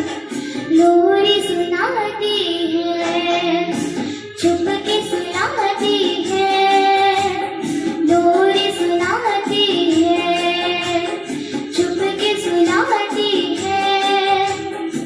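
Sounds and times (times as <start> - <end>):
girl singing: 0.0 - 15.0.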